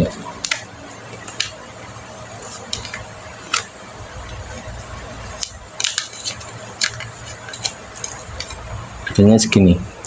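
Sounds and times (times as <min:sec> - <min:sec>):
electric fan humming: 0:00.0 - 0:10.0.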